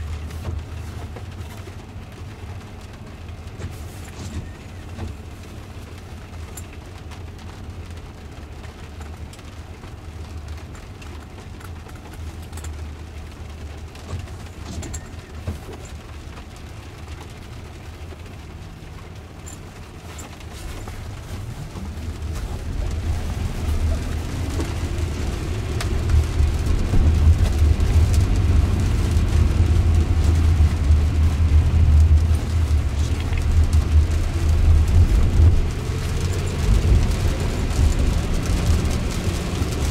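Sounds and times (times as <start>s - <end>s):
low car interior hum: 0.0s - 39.9s
rain ticking on car: 0.0s - 39.9s
tyre noise on wet road: 0.0s - 39.9s.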